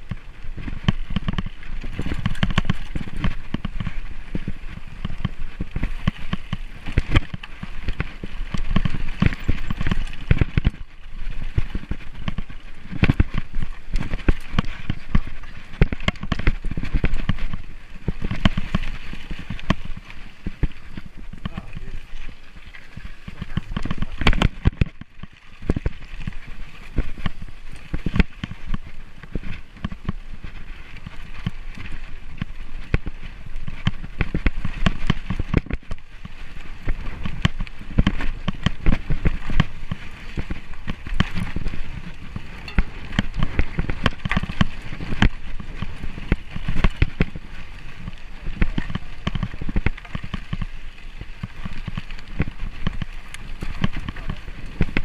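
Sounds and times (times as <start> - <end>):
bicycle rattling over dirt track: 0.0 - 55.0.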